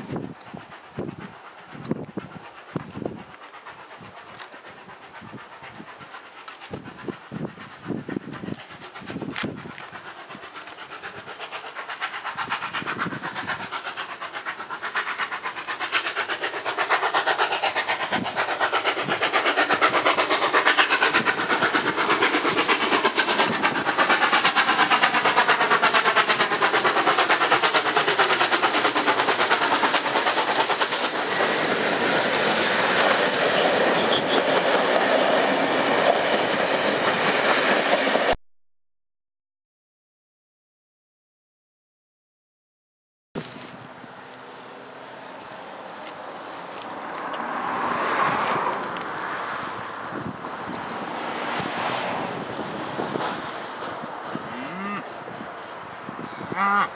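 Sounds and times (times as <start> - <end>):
steam train wheels clattering on rails: 0.0 - 38.4, 43.4 - 56.3.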